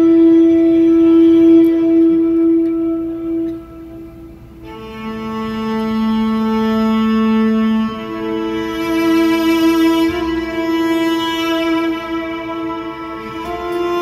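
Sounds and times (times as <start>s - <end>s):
cello bowed notes: 0.0s - 14.0s.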